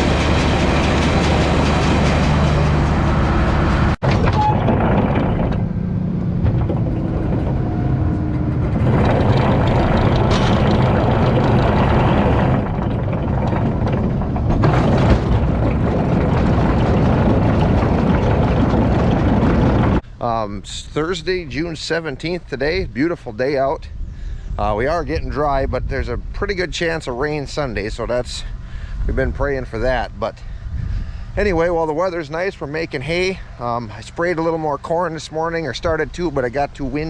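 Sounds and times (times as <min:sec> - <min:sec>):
tractor running: 0:00.0 - 0:23.6, 0:24.6 - 0:37.0.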